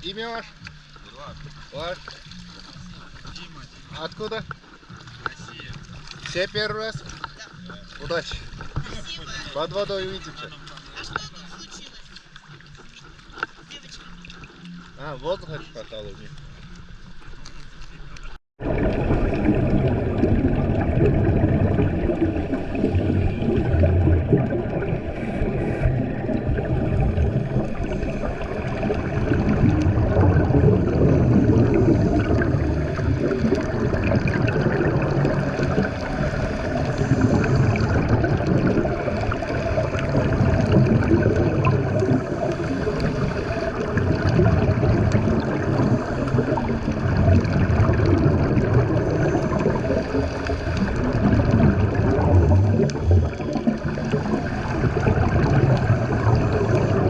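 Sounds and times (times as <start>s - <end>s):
low water churning: 0.0s - 57.0s
water gurgling and rushing: 0.0s - 57.0s.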